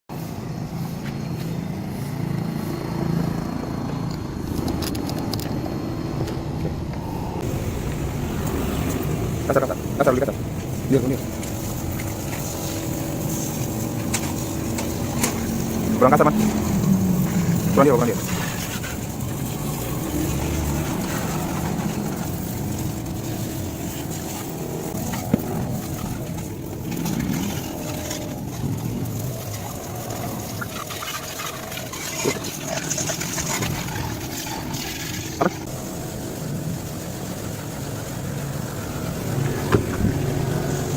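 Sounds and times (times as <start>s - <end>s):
diaphragm pump droning: 3.6s - 40.9s
water hissing from spray gun: 7.0s - 40.9s.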